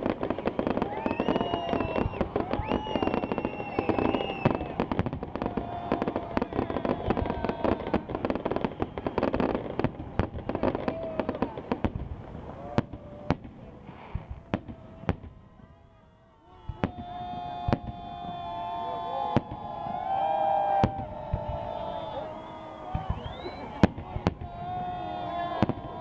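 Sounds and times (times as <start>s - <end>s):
fireworks bangs: 0.0s - 26.0s
fireworks crackling and popping: 0.0s - 26.0s.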